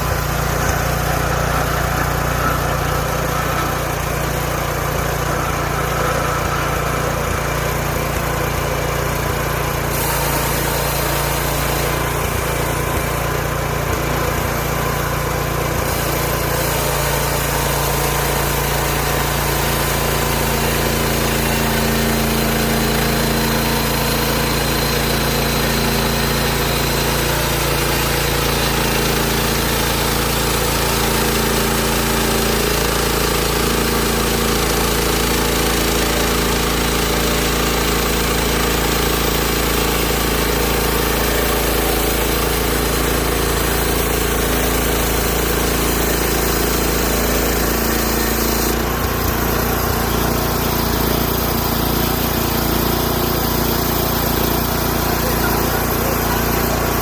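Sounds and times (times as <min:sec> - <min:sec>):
bandsaw mill engine running: 0:00.0 - 0:57.0.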